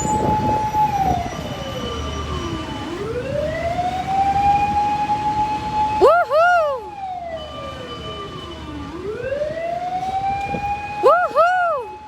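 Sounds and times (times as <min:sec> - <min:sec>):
fire truck siren wailing: 0:00.0 - 0:12.0.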